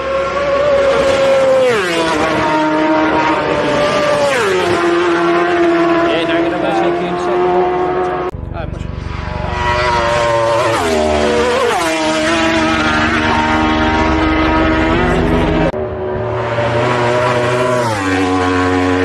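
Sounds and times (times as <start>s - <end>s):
motorcycles passing at speed: 0.0s - 19.0s.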